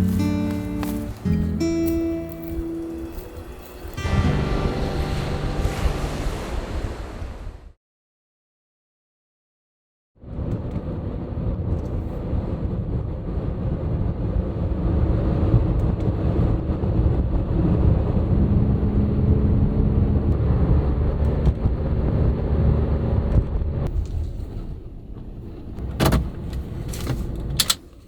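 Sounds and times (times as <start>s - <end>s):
car engine and road noise: 0.0s - 7.4s, 10.2s - 28.0s.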